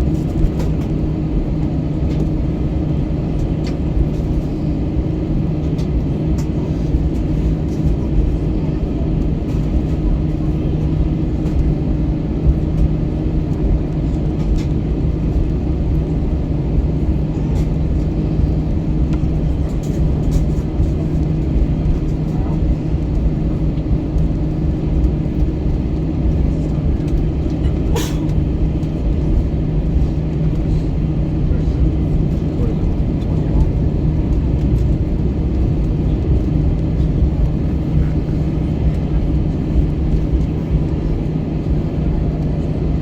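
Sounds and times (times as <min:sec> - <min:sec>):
jet engine cabin drone: 0:00.0 - 0:43.0.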